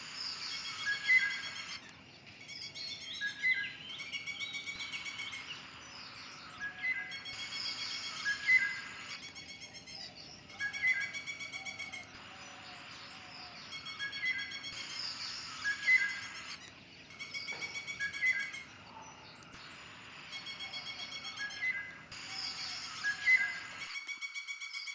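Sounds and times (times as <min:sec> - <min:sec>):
bird call: 0:00.0 - 0:24.9.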